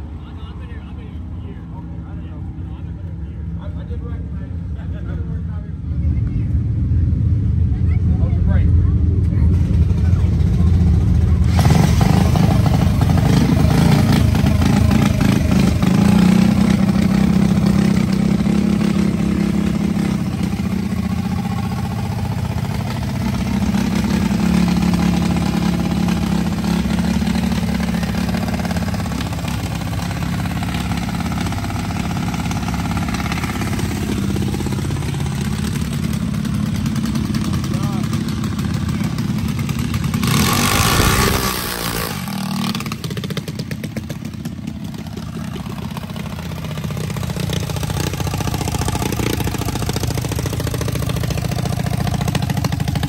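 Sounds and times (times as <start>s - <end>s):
single-cylinder engine idling: 7.8s - 53.0s.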